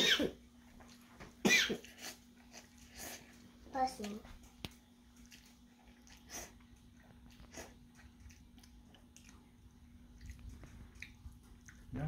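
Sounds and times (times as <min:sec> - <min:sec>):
faint steady hum: 0:00.0 - 0:12.0
chewing noodles: 0:01.8 - 0:12.0.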